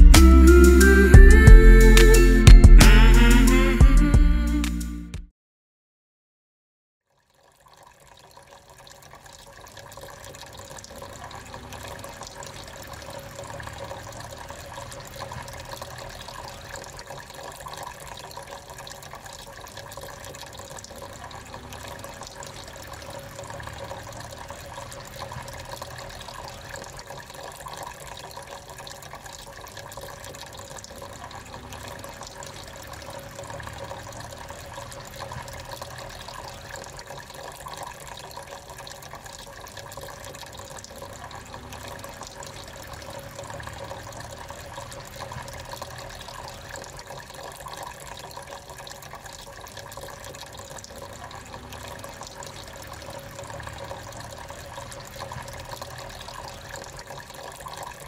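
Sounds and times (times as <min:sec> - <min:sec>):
water trickling and splashing: 0:07.0 - 0:58.0.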